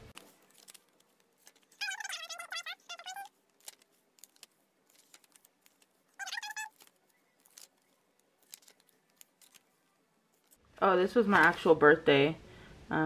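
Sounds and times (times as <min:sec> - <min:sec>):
paper pages turning: 0:00.0 - 0:10.6.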